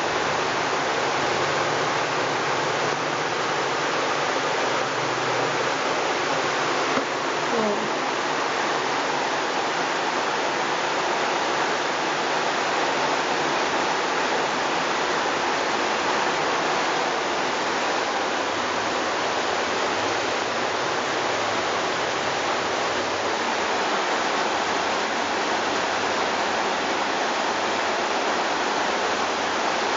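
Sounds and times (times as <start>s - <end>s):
water rushing down stairs: 0.0s - 29.9s.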